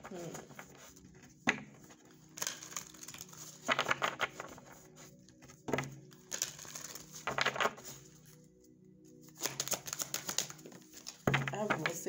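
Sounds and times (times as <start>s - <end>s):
cards being shuffled by hand: 0.0s - 8.4s, 9.2s - 12.0s.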